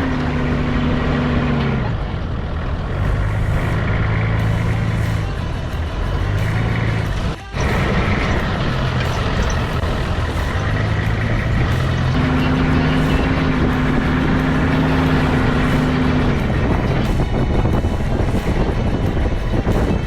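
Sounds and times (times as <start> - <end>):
diesel engine running: 0.0 - 20.0
road noise: 0.0 - 20.0.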